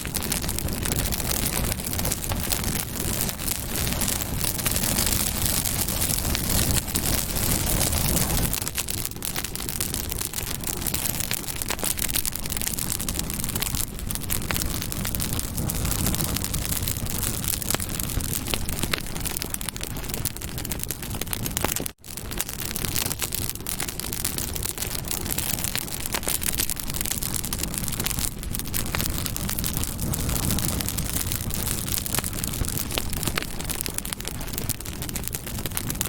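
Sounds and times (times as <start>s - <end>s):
low rumble of flames: 0.0s - 36.0s
wood crackling and popping: 0.0s - 36.0s.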